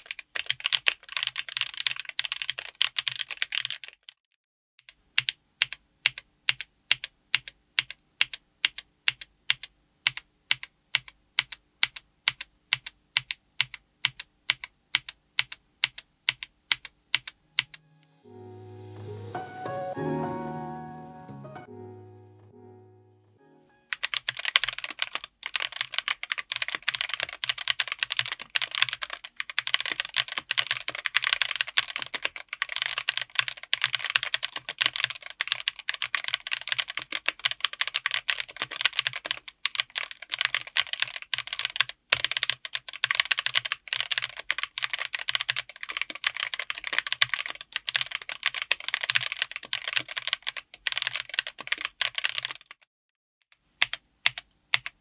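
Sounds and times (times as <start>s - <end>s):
fast typing on mechanical keyboard: 0.0s - 4.2s, 5.2s - 17.7s, 23.9s - 52.8s, 53.8s - 55.0s.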